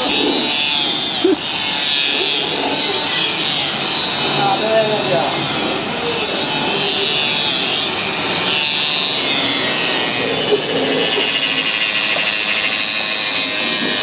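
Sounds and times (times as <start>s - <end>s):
car polisher whining: 0.0s - 14.0s.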